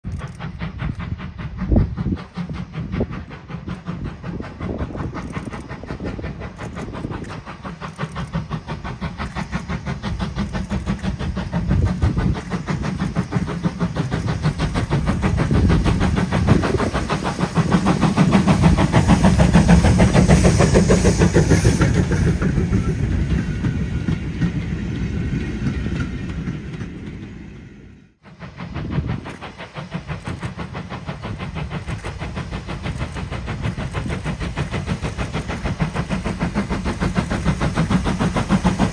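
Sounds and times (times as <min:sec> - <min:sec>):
steam locomotive exhaust beating: 0:00.0 - 0:38.9.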